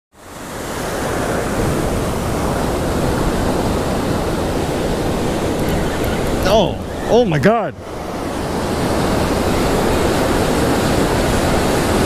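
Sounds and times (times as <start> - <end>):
ocean waves breaking: 0.2 - 12.0
wind on microphone: 0.2 - 12.0.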